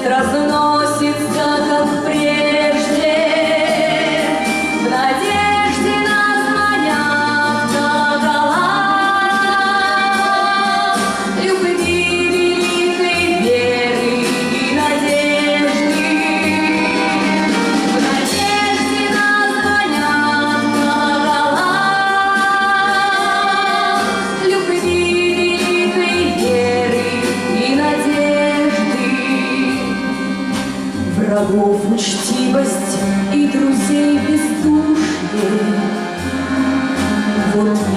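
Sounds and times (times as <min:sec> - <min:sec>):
slow song with instruments: 0:00.0 - 0:37.9.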